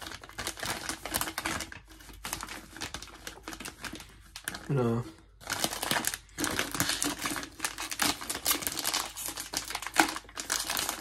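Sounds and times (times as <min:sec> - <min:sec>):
plastic chip bag crinkling: 0:00.0 - 0:11.0.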